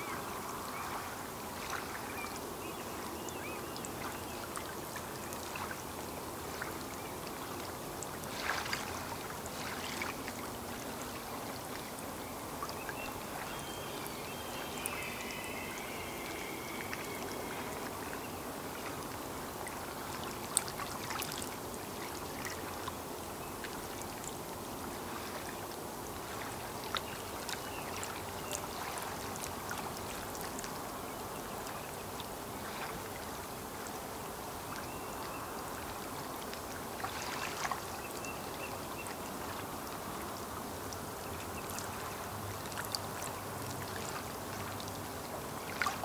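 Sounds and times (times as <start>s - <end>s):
small water splashes: 0.0s - 23.0s, 23.6s - 30.9s, 34.7s - 46.0s
lake water lapping at shore: 0.1s - 23.0s, 23.6s - 30.9s, 35.7s - 46.0s.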